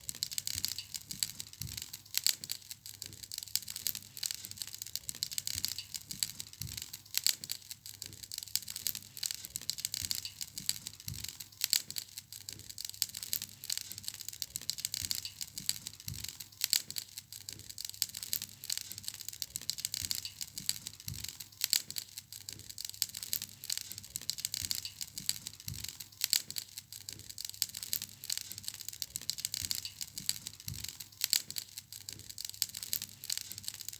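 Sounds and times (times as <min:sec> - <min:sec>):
fire hissing: 0:00.0 - 0:33.9
wood fire crackling: 0:00.0 - 0:33.9.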